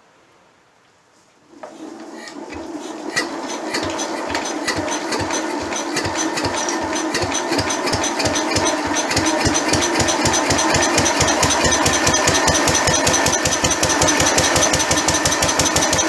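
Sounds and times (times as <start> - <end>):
stationary engine running: 1.7 - 16.0.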